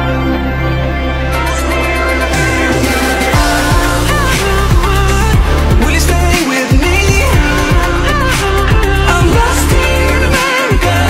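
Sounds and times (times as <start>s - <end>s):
pop music with sliding bass: 0.0s - 11.0s.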